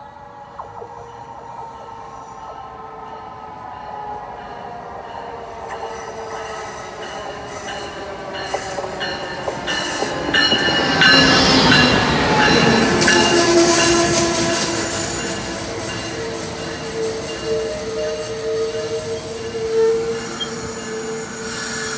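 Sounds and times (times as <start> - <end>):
train rolling past: 0.0 - 21.9
train wheels squealing: 0.0 - 21.9.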